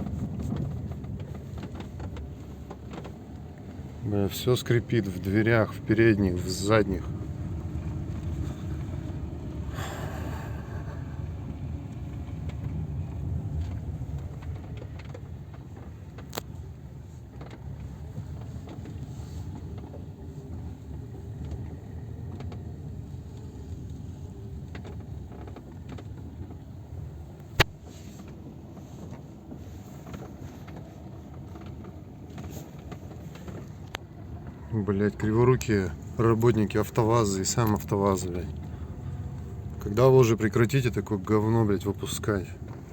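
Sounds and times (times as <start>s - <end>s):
road and engine rumble: 0.0s - 42.9s.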